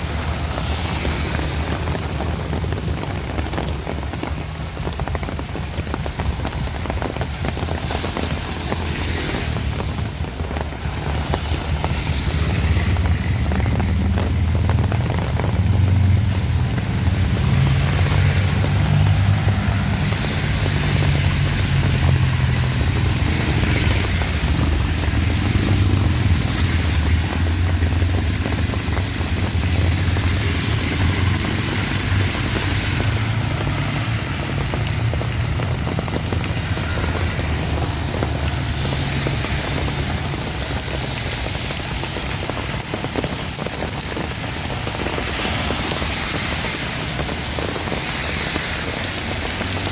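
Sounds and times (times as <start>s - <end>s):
heavy rain pouring: 0.0s - 49.9s
low rumble: 5.9s - 49.8s.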